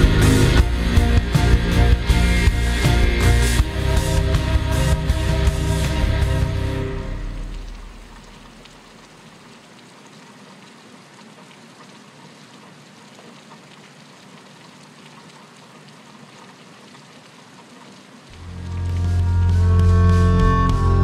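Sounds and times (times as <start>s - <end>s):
light rain falling: 0.0s - 20.7s.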